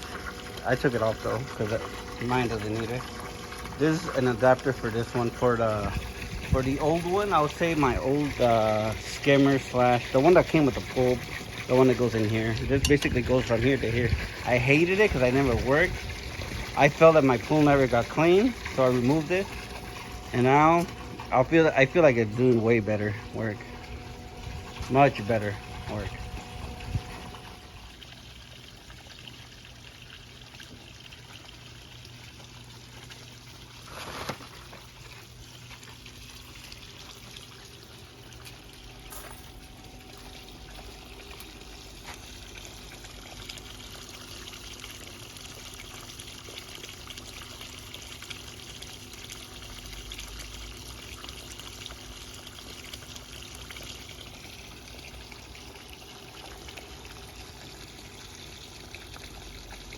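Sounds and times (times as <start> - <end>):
water pouring into pool: 0.0 - 59.9.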